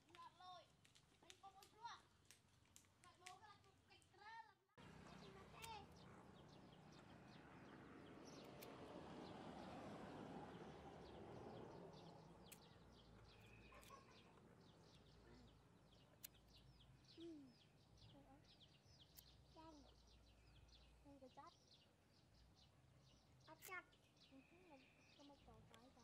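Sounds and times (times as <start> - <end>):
outdoor noise hush: 0.0 - 26.0
small birds chirping: 0.0 - 26.0.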